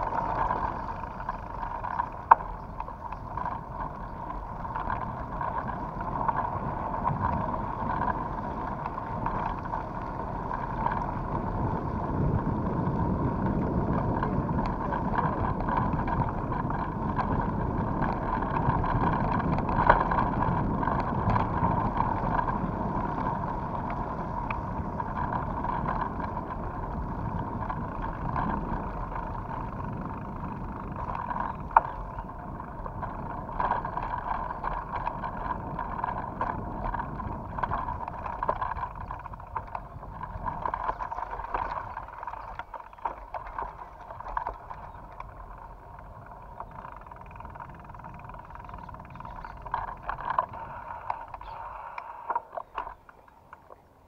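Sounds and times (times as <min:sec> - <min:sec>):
bike rattles and knocks: 0:00.0 - 0:54.0
bike tyres on gravel: 0:00.0 - 0:54.0.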